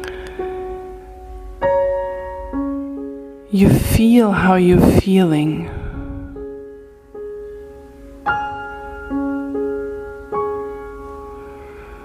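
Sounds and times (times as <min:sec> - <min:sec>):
slow soft piano music: 0:00.0 - 0:12.0.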